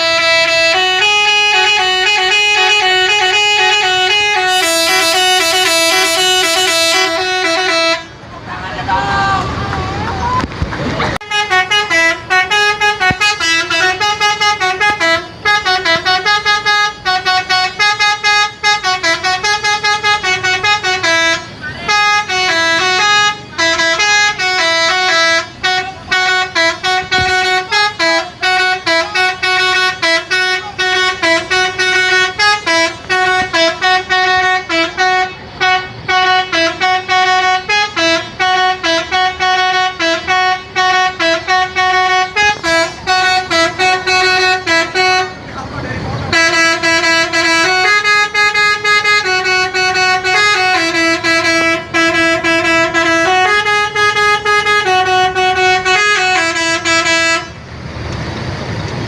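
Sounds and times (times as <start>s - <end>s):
multi-tone bus horn melody: 0.0s - 10.3s, 11.1s - 57.7s.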